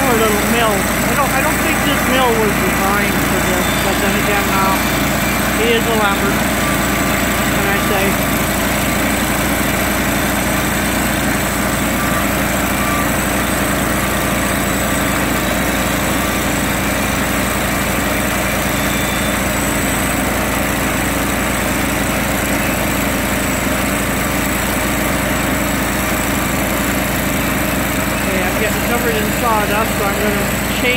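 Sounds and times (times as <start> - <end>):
bandsaw mill sawing log: 0.0 - 30.9.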